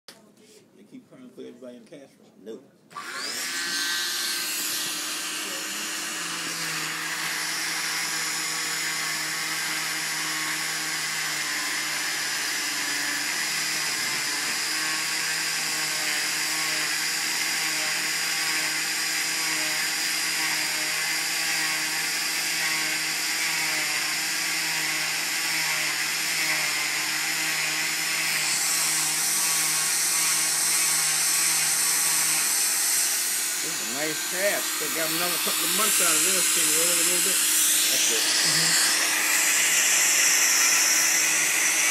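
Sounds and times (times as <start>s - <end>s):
oscillating cast saw buzzing: 3.0s - 41.9s.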